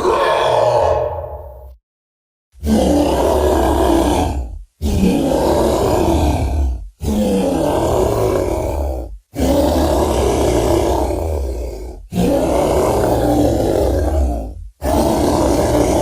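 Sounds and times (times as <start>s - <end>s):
monster growling roars: 0.0s - 1.8s, 2.6s - 16.0s.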